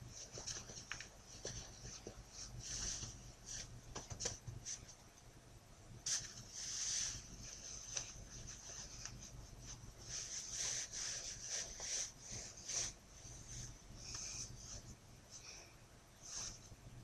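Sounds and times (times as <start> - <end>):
cloth rustling and rubbing: 0.0 - 5.0, 6.0 - 15.6, 16.2 - 16.8.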